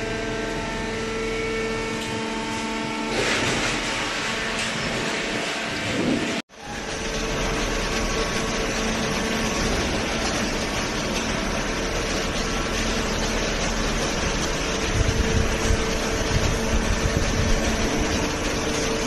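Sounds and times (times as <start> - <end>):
baler machine humming: 0.0 - 19.0.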